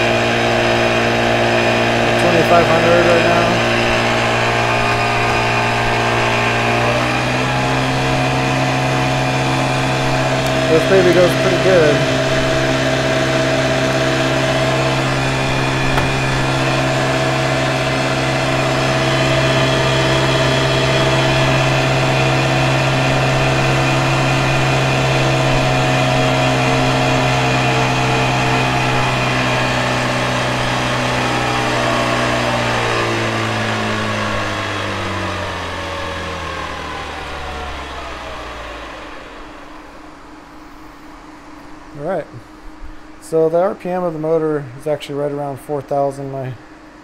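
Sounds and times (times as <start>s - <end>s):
electric outboard motor humming: 0.0s - 44.0s.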